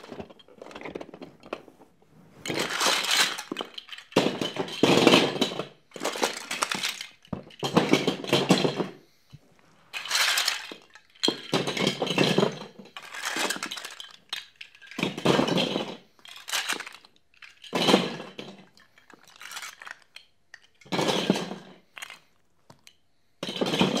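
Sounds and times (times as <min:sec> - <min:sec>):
plastic bricks clattering: 0:00.0 - 0:01.7, 0:02.4 - 0:09.0, 0:09.9 - 0:24.0.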